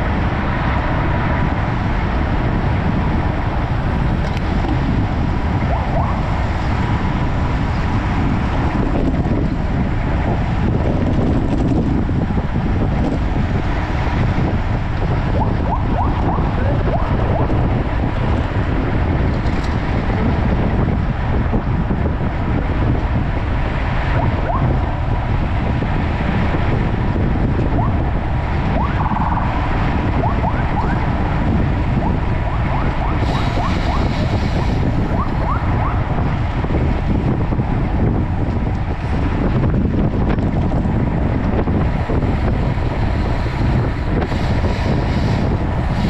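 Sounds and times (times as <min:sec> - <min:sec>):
bike tyre and road noise: 0:00.0 - 0:46.0
wind rushing over microphone: 0:00.0 - 0:46.0.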